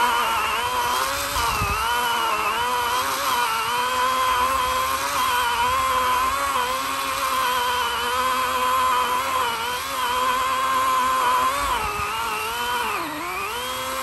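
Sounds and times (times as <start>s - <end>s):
electric chainsaw cutting log: 0.0s - 14.0s.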